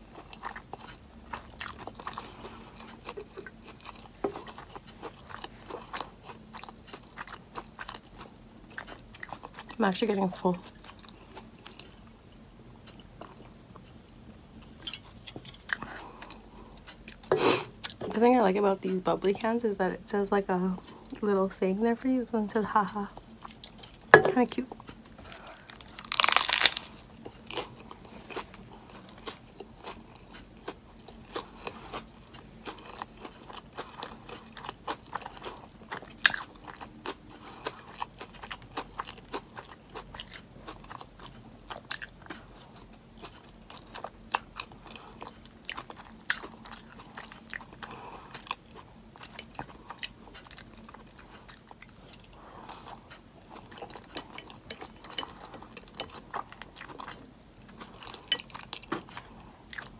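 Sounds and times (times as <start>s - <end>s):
person chewing: 0.0s - 9.8s, 10.6s - 14.0s, 14.6s - 18.0s, 23.2s - 59.9s.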